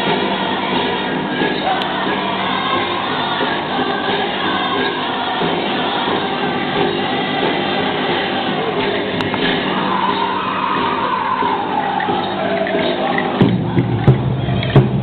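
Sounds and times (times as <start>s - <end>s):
drum group singing: 0.0s - 15.0s.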